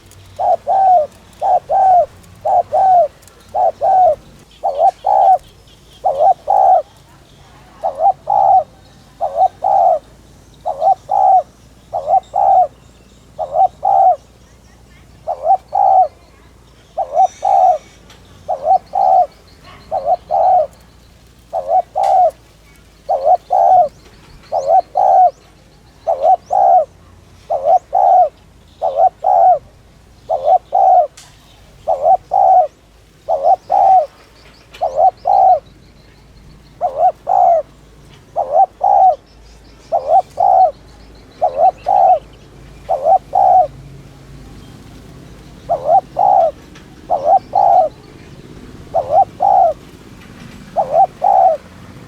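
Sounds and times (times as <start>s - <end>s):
dove cooing: 0.0s - 35.7s, 36.3s - 43.8s, 44.5s - 52.0s.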